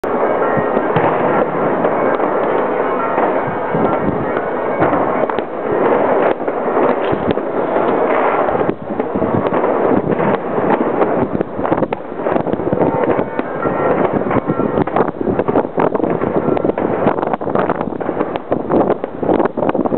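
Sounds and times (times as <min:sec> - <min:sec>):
dense crowd din: 0:00.0 - 0:19.0
sharp bangs and pops: 0:00.0 - 0:19.9.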